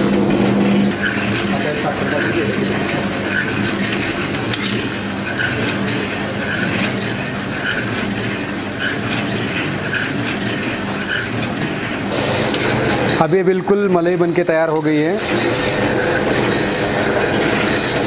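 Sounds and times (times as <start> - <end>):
motor stirrer humming: 0.0 - 18.0.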